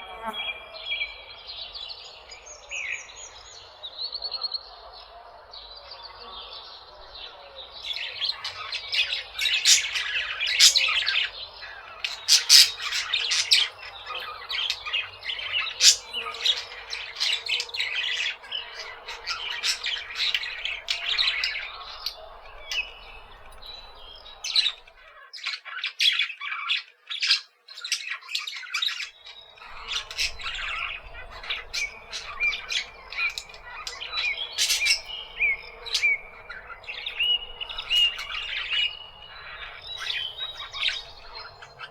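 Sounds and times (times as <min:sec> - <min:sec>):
parakeets chattering and squawking: 0:00.0 - 0:00.6, 0:07.7 - 0:41.9.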